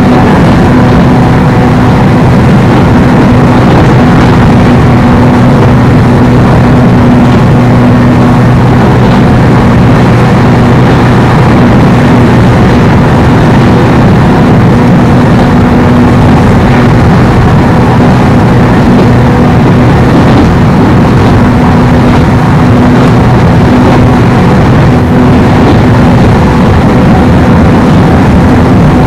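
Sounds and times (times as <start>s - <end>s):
low hum: 0.0s - 29.0s
train rumbling on rails: 0.0s - 29.0s.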